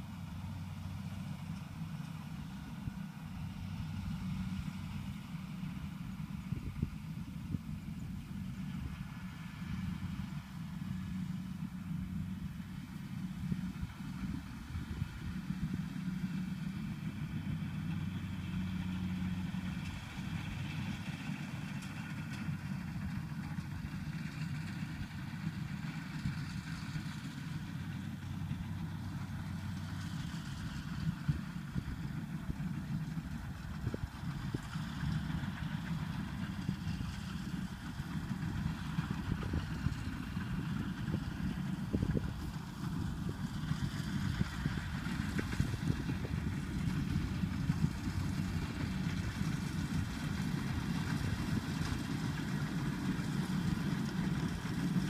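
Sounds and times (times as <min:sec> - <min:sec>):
harvester engine humming: 0:00.0 - 0:55.0.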